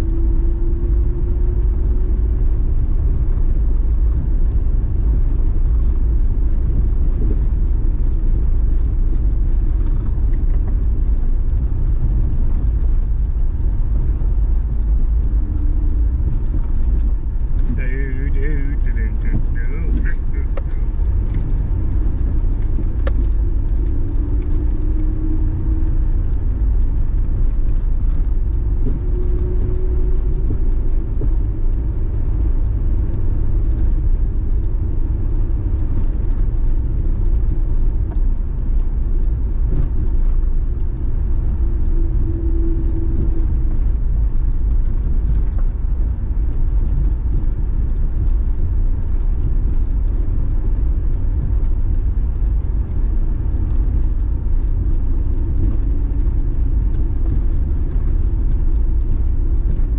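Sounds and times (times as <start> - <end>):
engine and tyre rumble: 0.0 - 59.9
light rattles and clicks: 0.1 - 59.9
faint whine: 1.7 - 59.9.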